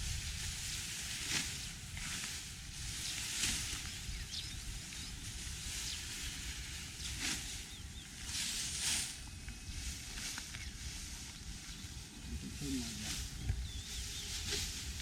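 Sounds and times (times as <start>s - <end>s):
dry straw rustling: 0.0s - 15.0s
wind rumbling on microphone: 0.0s - 15.0s.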